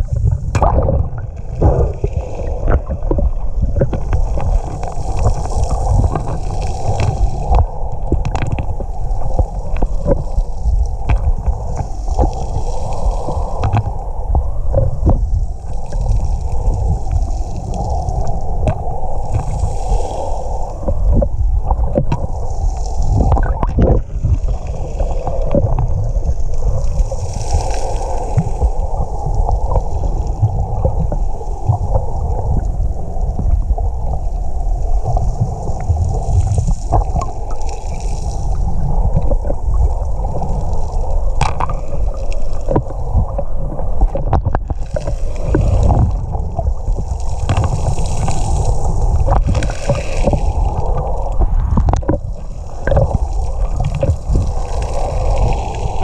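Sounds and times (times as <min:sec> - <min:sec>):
underwater sloshing and rumbling: 0:00.0 - 0:56.0.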